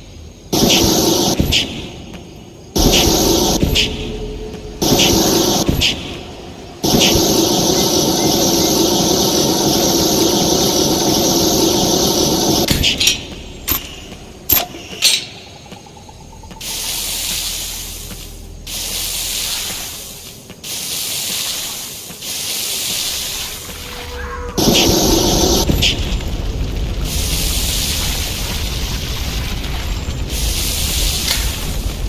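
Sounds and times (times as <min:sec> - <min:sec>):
flamethrower hissing rush: 0:00.0 - 0:15.0, 0:16.2 - 0:32.0.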